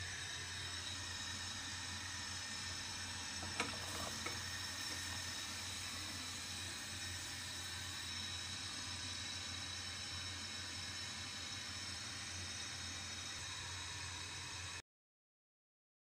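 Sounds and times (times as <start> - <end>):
water heating hiss: 0.0 - 14.8.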